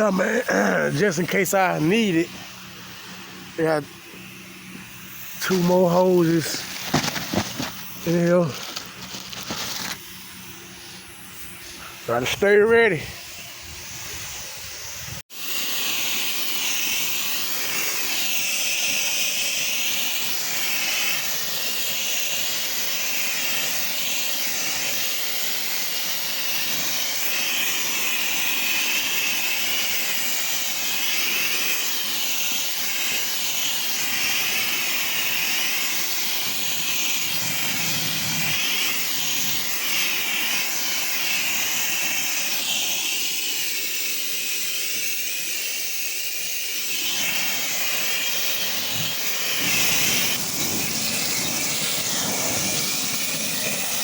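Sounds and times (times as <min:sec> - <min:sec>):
pressure washer spray hissing: 0:00.0 - 0:54.0.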